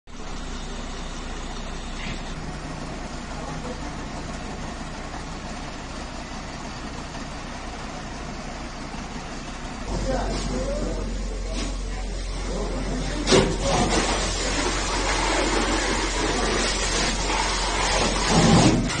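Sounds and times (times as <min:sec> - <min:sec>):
engine humming: 0:00.1 - 0:19.0.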